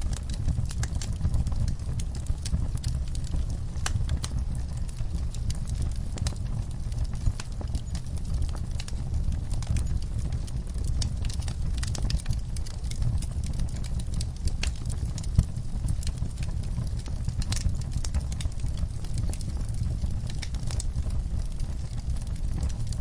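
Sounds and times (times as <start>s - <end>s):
wood fire crackling in fireplace: 0.0s - 23.0s.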